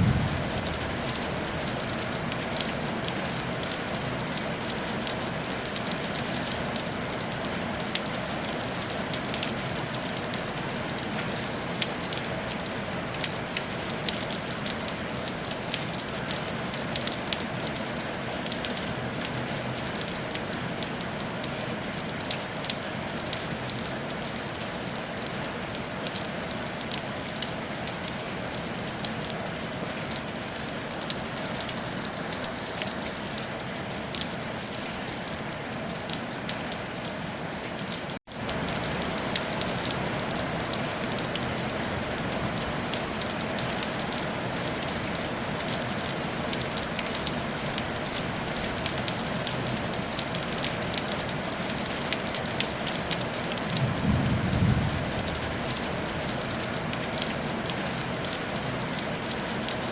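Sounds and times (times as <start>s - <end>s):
rain pattering on a tile roof: 0.0s - 59.9s.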